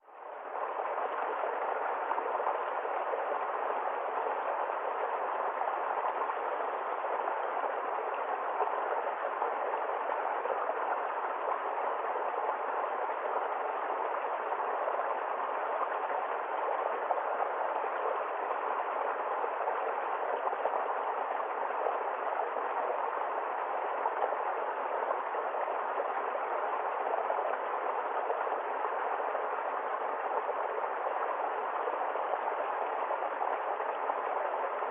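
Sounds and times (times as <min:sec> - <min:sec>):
water babbling: 0:00.0 - 0:34.9.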